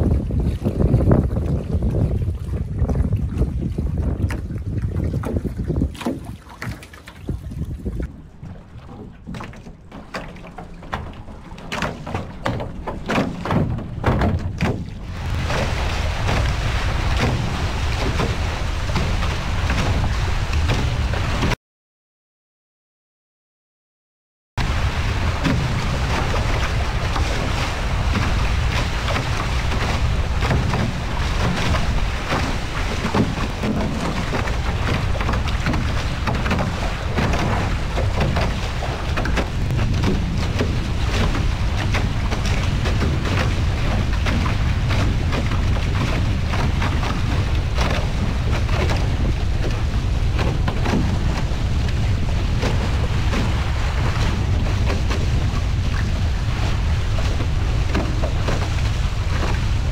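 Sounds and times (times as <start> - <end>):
wind buffeting microphone: 0.0 - 21.6, 24.6 - 59.9.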